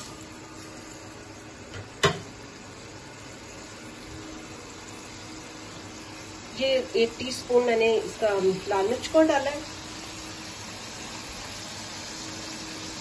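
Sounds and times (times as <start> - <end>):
garlic and onion sizzling: 0.0 - 13.0.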